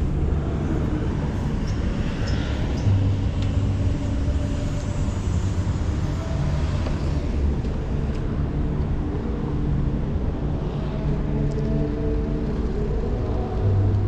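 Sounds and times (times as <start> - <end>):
motor traffic: 0.0 - 14.0
wind rumble on microphone: 0.0 - 14.0.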